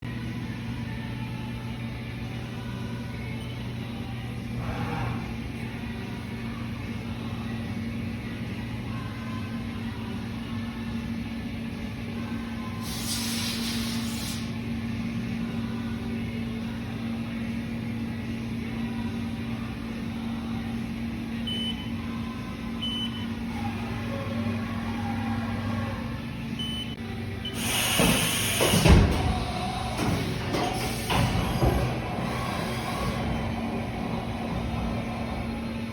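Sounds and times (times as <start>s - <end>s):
machining center humming: 0.0s - 35.9s.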